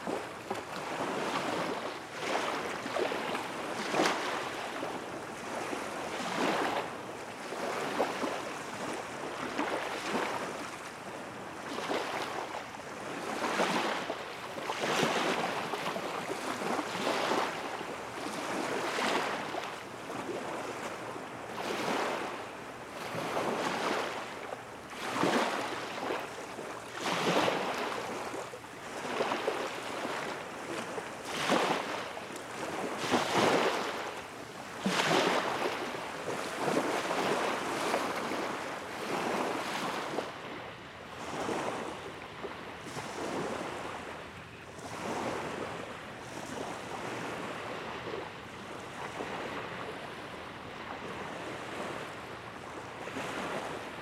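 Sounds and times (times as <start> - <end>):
small waves washing against shore: 0.0 - 54.0.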